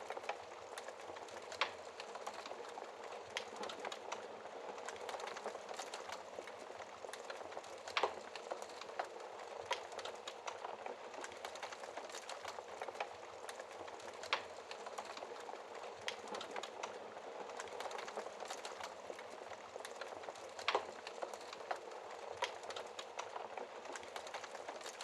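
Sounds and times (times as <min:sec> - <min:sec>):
logs crackling in fireplace: 0:00.0 - 0:25.0.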